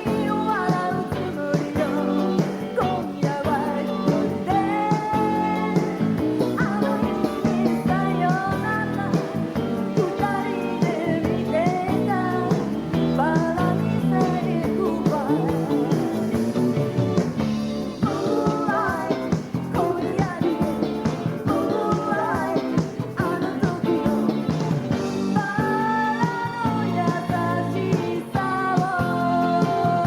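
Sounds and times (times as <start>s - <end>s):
woman singing: 0.0s - 16.5s, 18.0s - 30.0s
live rock band with electric guitar: 0.0s - 30.0s.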